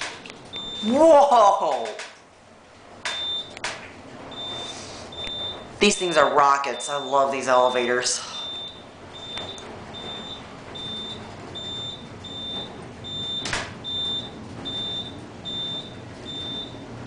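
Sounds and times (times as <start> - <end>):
elevator running noise: 0.0 - 17.0.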